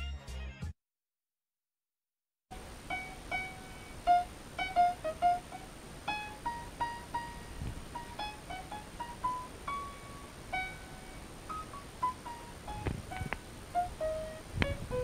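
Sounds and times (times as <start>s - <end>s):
soft electric piano melody: 2.6s - 15.0s.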